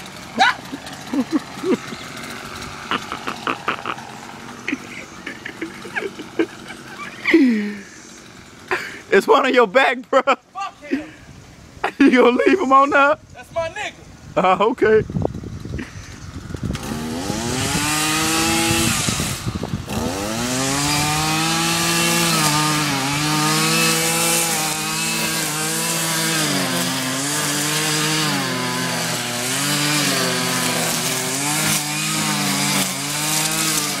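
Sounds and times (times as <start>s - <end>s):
lawn mower engine running: 0.0s - 9.6s, 14.0s - 34.0s.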